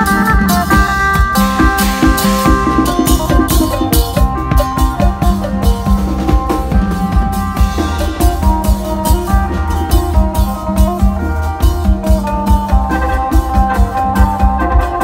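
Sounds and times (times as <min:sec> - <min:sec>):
drum kit fast beat: 0:00.0 - 0:15.0
plucked electric lute: 0:00.0 - 0:15.0.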